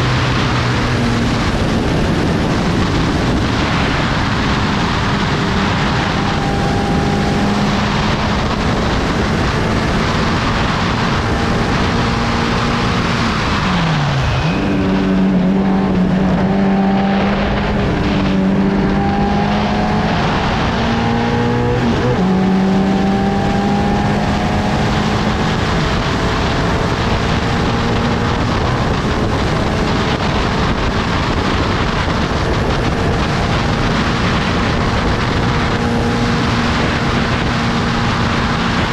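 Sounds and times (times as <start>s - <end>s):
race car engine at speed: 0.0s - 38.9s
rushing noise: 0.0s - 38.9s.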